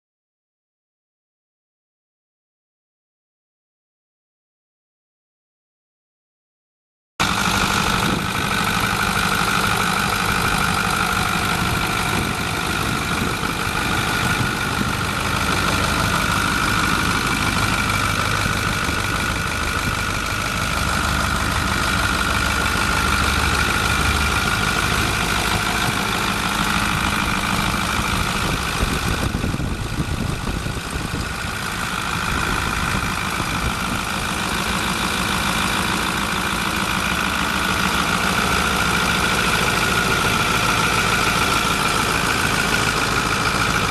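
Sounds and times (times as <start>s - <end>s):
diesel engine idling: 7.2s - 43.9s.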